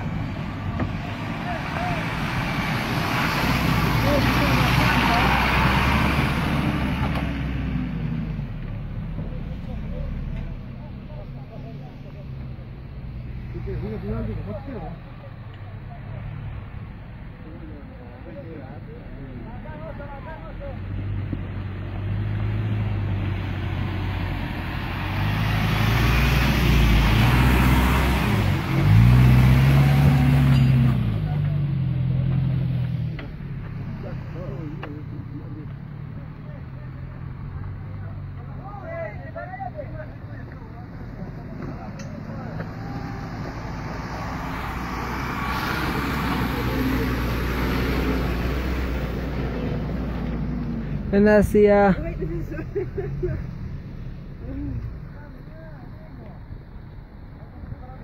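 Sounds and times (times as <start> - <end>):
heavy vehicle engine humming: 0.0 - 58.0.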